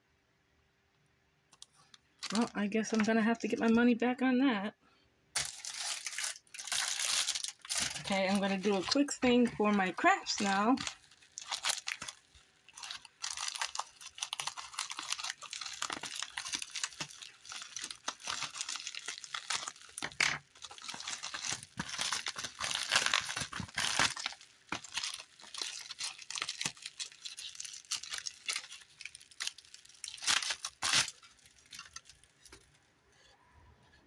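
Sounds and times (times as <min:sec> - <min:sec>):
plastic bag crinkling: 0:01.6 - 0:03.8, 0:05.4 - 0:32.8.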